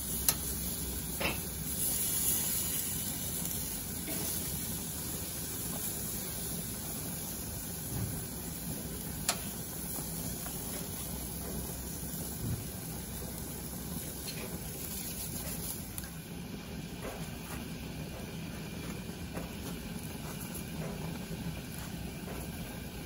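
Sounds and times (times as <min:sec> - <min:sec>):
food sizzling on grill: 0:00.0 - 0:23.0.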